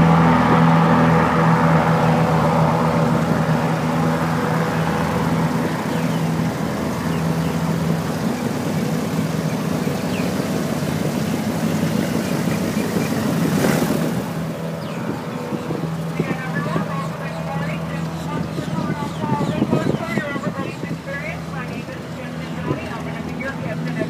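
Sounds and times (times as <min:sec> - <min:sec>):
airboat engine droning: 0:00.0 - 0:24.0.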